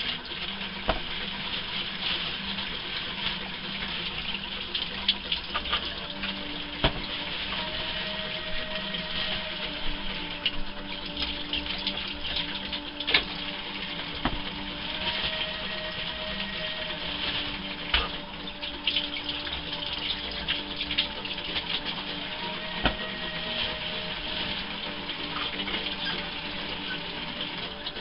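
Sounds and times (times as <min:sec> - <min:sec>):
water running from tap: 0:00.0 - 0:28.0.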